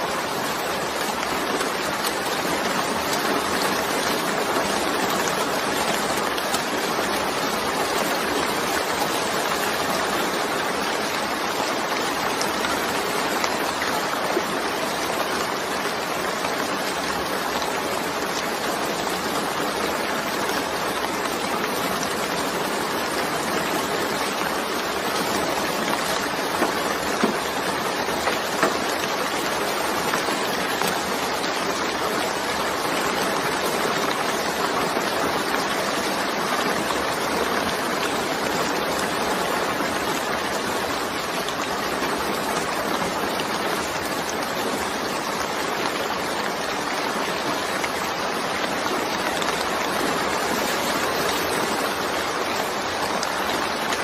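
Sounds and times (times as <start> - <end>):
raindrop patters: 0.0 - 54.0
steady rain hiss: 0.0 - 54.0.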